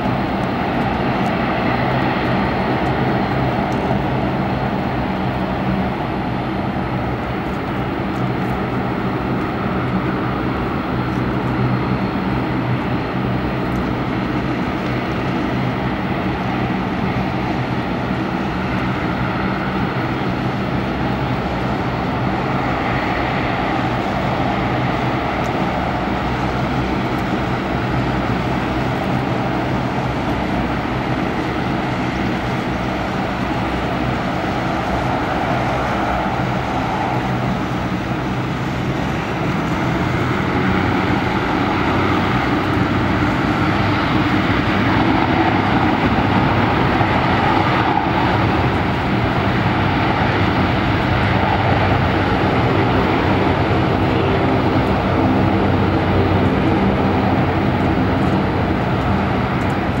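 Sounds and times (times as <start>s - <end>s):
turboprop propeller drone: 0.0s - 60.0s.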